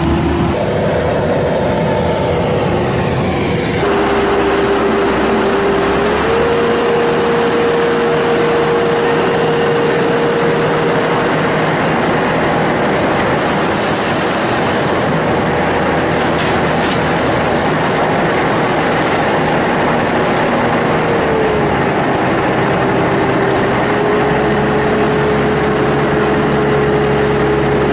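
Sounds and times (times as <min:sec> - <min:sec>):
harvester machine running with whine: 0:00.0 - 0:27.9.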